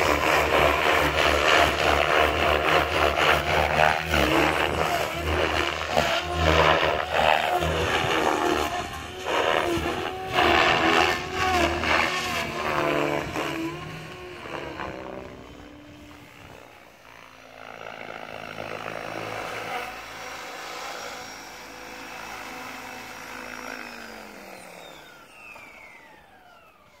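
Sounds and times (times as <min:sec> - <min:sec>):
rc helicopter rotor whine: 0:00.0 - 0:27.0.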